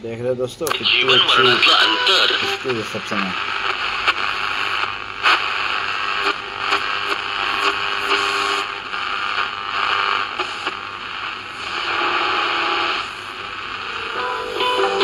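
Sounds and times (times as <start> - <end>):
sharp radio crackles: 0.6 - 14.1
radio static hiss: 0.6 - 15.0.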